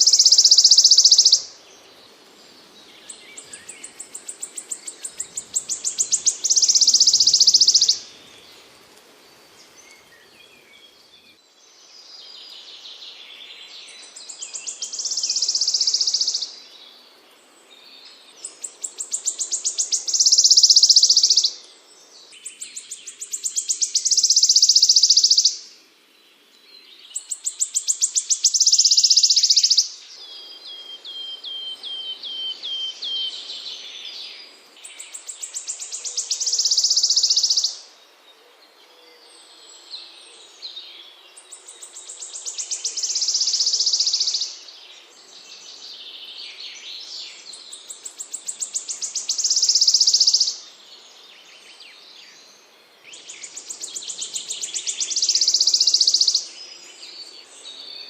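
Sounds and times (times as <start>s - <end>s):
songbird buzzing trill song: 0.0s - 8.9s, 9.5s - 38.3s, 39.5s - 58.0s.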